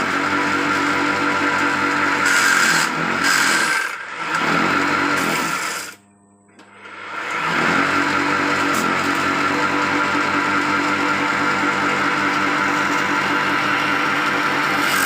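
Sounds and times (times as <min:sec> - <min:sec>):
small petrol engine running: 0:00.0 - 0:06.0, 0:07.2 - 0:15.0.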